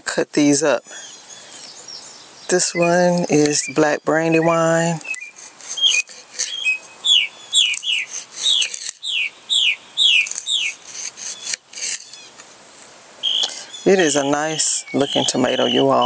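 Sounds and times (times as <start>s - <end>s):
songbird whistling: 0.9s - 12.3s, 13.2s - 16.0s.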